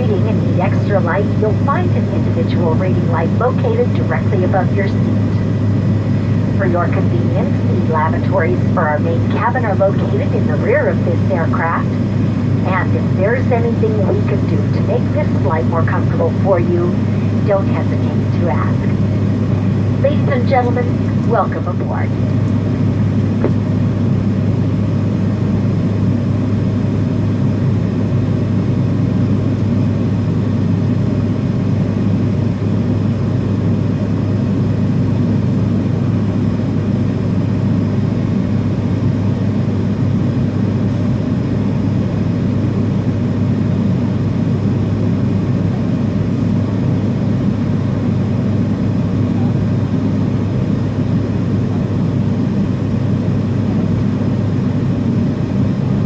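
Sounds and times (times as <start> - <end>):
airliner cabin drone: 0.0 - 56.0
constant hum: 0.0 - 56.0.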